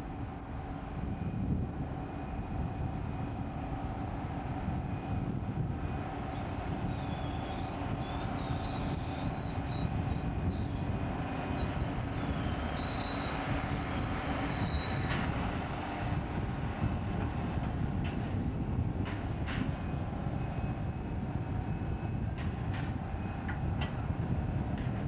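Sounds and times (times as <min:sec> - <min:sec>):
crane diesel engine running: 0:00.0 - 0:24.9.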